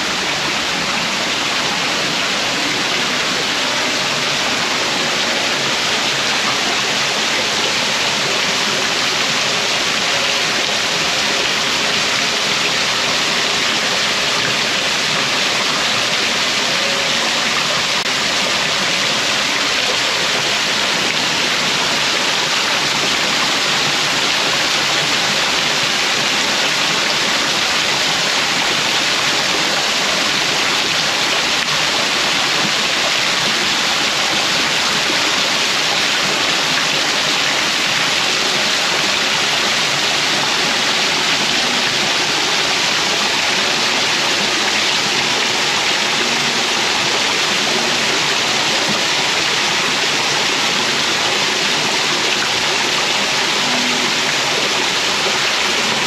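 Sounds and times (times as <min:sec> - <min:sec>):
rush of falling water: 0:00.0 - 0:56.0.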